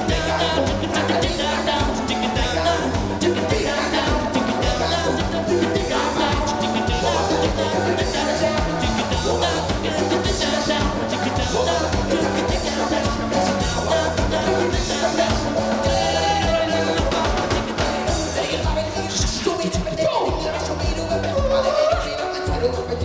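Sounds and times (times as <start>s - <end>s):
live reggae ska band: 0.0s - 23.0s.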